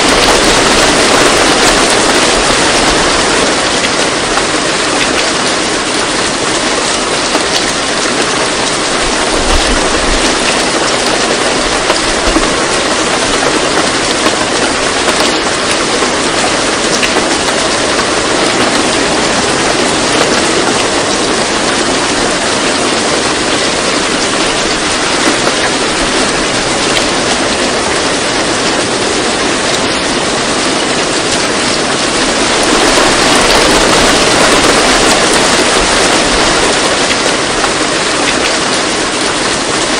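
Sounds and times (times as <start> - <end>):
loud steady rushing noise: 0.0 - 7.6, 8.2 - 39.9.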